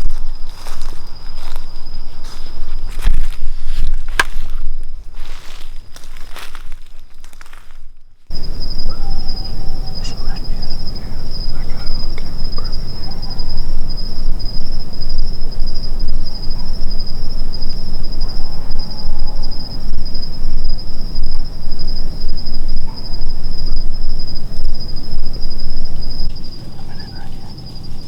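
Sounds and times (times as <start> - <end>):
insects trilling: 0.0 - 28.0
low rumble: 0.0 - 28.0.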